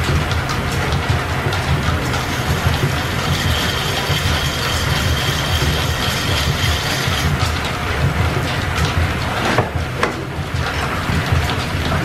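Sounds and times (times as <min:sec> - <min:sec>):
machinery clattering: 0:00.0 - 0:12.0.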